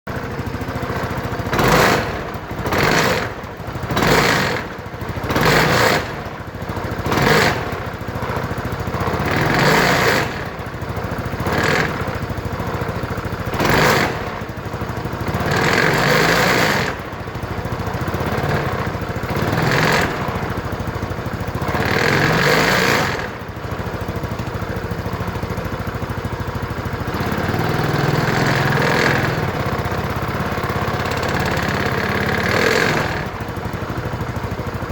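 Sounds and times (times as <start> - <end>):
scooter engine revving: 0.1 - 34.9.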